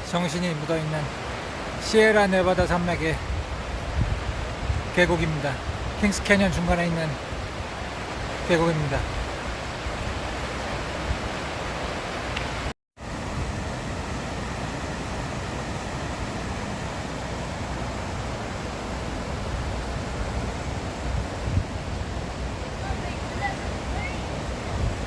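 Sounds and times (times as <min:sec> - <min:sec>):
mountain river rushing: 0:00.0 - 0:25.0.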